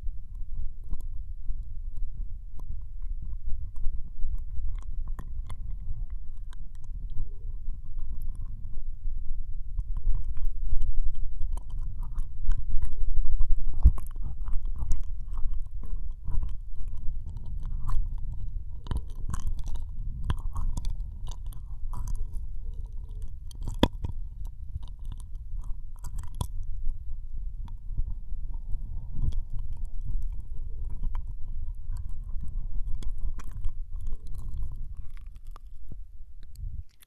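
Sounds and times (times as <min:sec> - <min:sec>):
low rumble: 0:00.0 - 0:37.0
wet tongue and lip sounds: 0:00.0 - 0:37.0.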